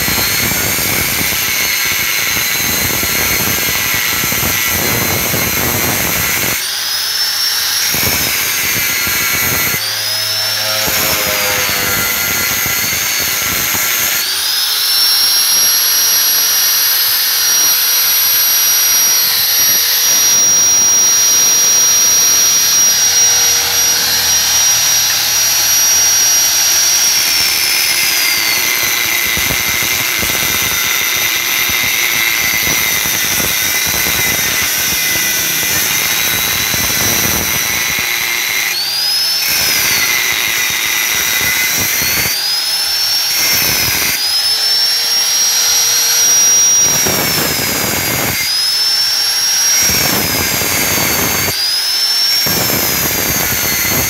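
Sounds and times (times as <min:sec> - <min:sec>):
angle grinder cutting metal: 0:00.0 - 0:54.0.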